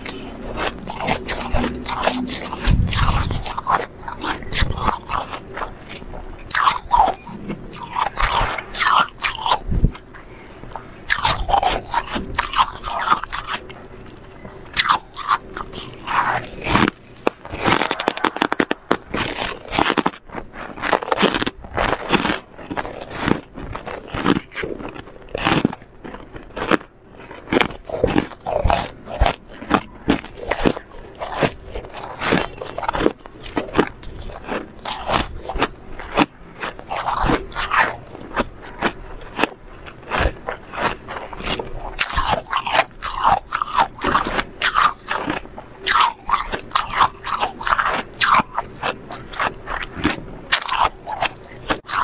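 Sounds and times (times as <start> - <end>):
chewing crunchy frost chunks: 0.0 - 52.0.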